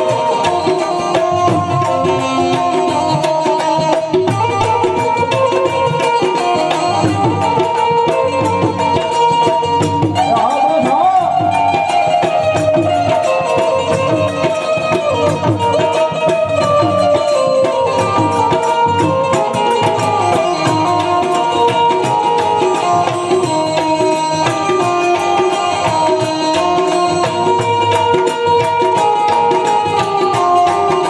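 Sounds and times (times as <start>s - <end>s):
harmonium notes: 0.0s - 31.0s
tabla rhythm: 0.0s - 31.0s.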